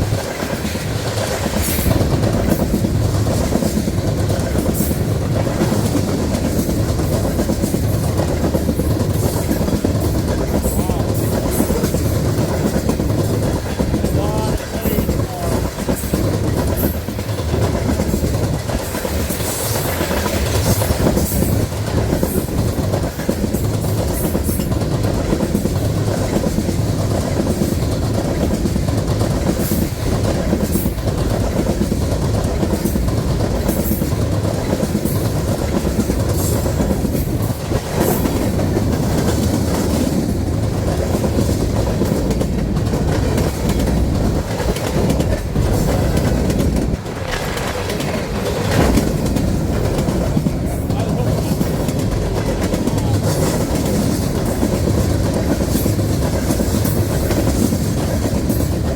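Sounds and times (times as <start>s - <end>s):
freight train wheels clacking: 0.0s - 58.9s.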